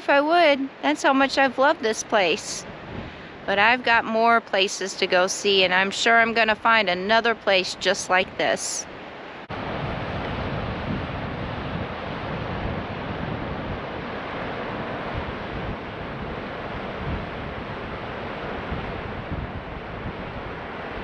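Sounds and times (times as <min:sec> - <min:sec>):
wind buffeting microphone: 0:00.0 - 0:04.4, 0:05.0 - 0:21.0.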